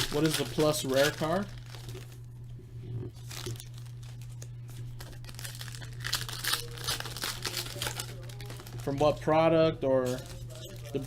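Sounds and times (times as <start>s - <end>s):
foil wrappers crinkling and tearing: 0.0s - 2.3s, 3.1s - 11.0s
low electrical hum: 0.0s - 11.0s.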